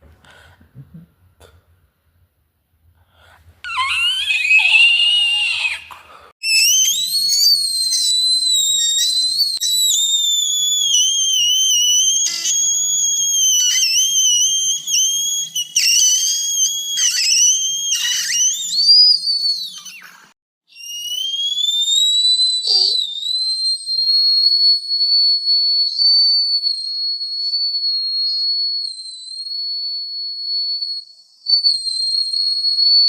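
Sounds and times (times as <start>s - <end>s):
high-pitched wavering whistle: 3.6s - 33.0s.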